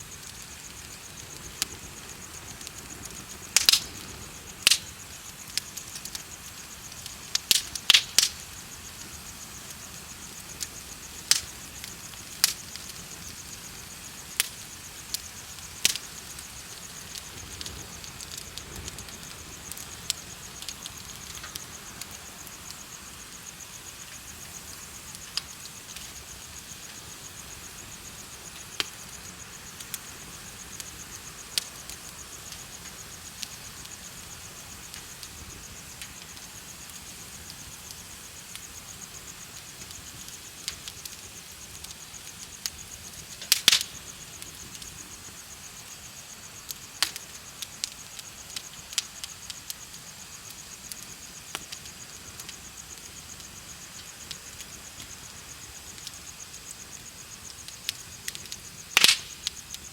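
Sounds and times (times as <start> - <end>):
bonfire crackling: 0.0 - 59.9
insects chirping: 0.0 - 59.9.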